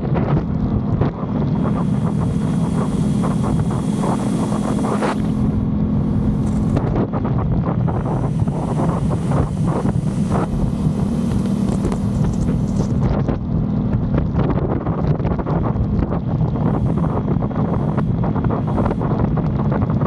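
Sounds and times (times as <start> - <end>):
motorcycle engine running: 0.0 - 20.0
wind noise on microphone: 0.0 - 20.0.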